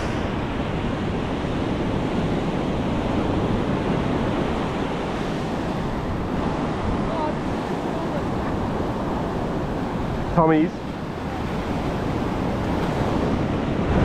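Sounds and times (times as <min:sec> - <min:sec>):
ocean surf breaking on beach: 0:00.0 - 0:14.0
wind buffeting microphone: 0:00.0 - 0:14.0.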